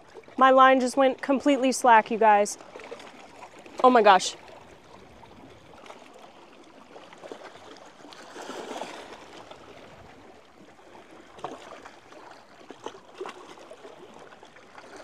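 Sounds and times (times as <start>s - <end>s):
small waves splashing on rocks: 2.0s - 15.0s.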